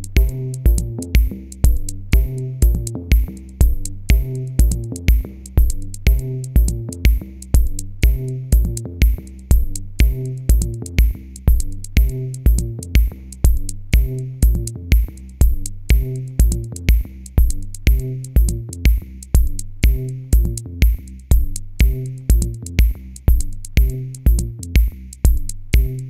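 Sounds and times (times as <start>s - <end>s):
electronic music with drum-machine beat: 0.0s - 26.0s.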